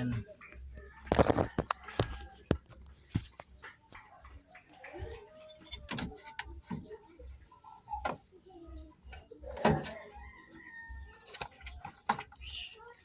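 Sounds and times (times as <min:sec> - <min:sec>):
faint background voices: 0:00.0 - 0:13.0.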